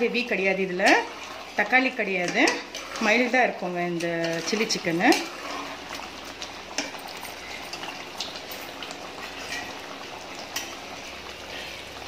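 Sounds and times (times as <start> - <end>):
gravy bubbling in a pot: 0.0 - 12.0.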